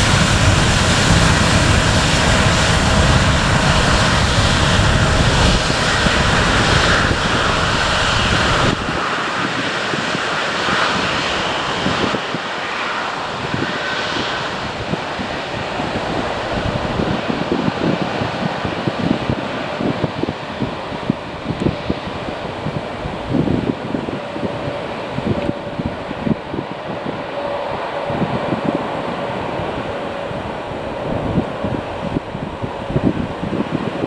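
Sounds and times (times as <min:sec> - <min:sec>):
jet engines at takeoff: 0:00.0 - 0:34.0
wind-blown rush: 0:00.0 - 0:34.0.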